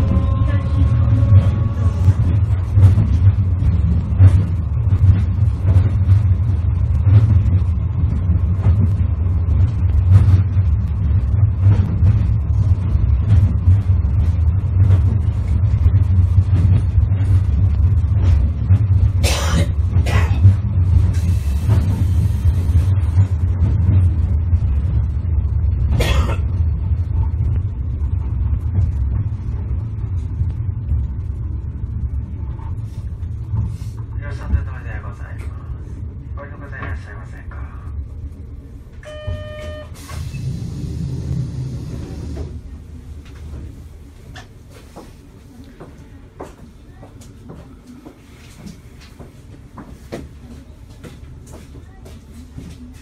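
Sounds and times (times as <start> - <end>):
tram running gear rumble: 0.0 - 53.0.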